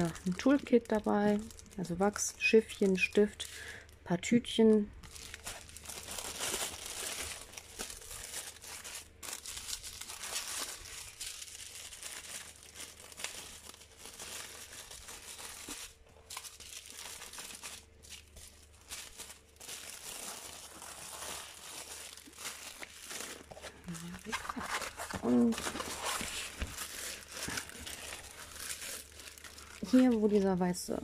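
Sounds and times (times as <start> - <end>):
plastic bags crinkling: 0.0 - 31.0.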